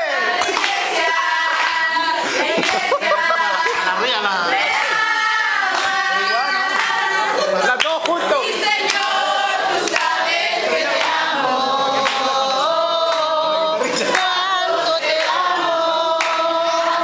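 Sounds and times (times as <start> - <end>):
women singing in unison: 0.0 - 7.6, 8.3 - 17.0.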